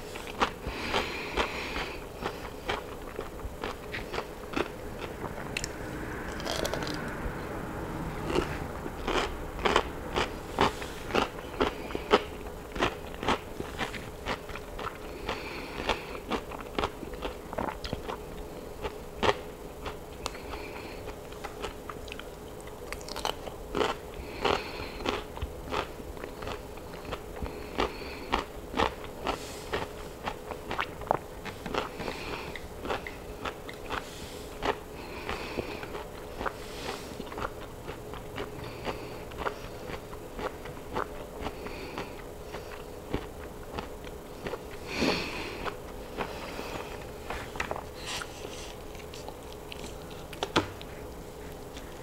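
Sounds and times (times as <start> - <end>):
cucumber crunching: 0.1 - 7.1, 8.2 - 52.0.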